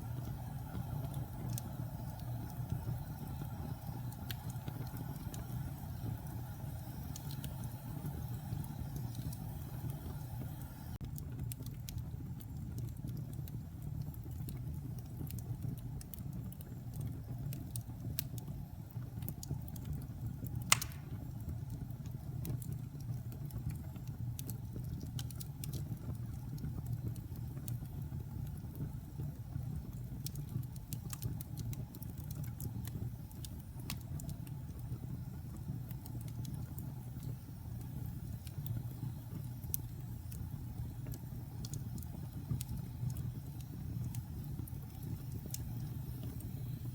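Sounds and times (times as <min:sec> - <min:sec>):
fire crackling and popping: 0:00.0 - 0:46.9
wood fire burning: 0:00.0 - 0:46.9.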